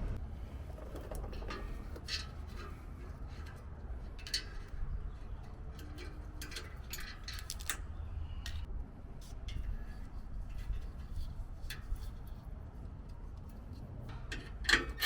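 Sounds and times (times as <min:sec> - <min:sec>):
low steady hum: 0:00.0 - 0:15.0
metallic clicks and scrapes: 0:00.5 - 0:15.0.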